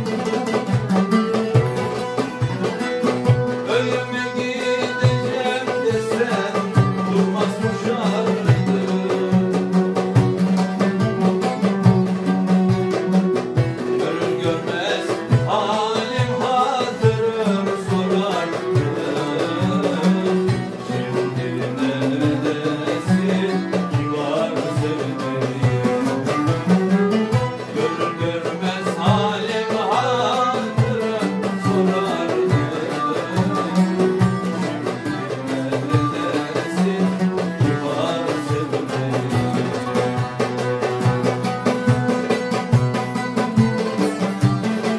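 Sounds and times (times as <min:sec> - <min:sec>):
hand drum beat: 0:00.0 - 0:44.9
lute melody: 0:00.0 - 0:44.9
violin melody: 0:00.0 - 0:44.9.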